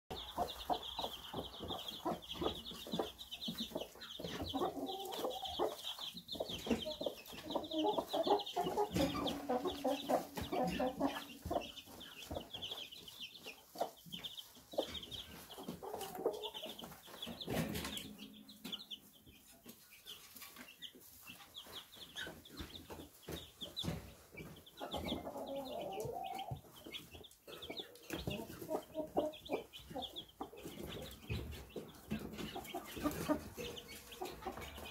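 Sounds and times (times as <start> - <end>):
chicks peeping: 0.1 - 34.9
hen clucking: 0.1 - 34.9.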